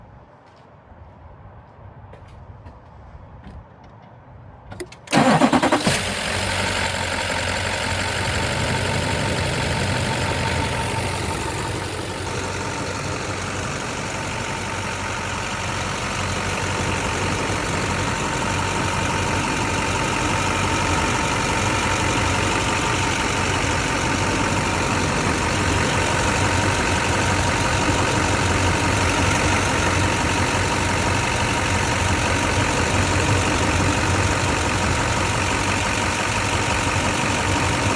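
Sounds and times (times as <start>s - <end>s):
engine cranking and idling: 4.8s - 37.9s.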